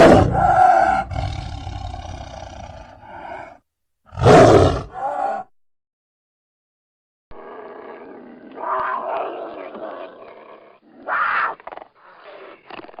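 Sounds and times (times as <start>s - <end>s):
big cat growling and roaring: 0.0s - 5.5s, 7.4s - 13.0s.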